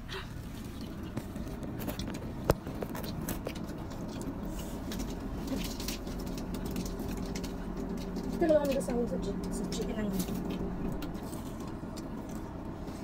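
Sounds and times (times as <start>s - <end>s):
van cabin rumble: 0.0s - 13.0s.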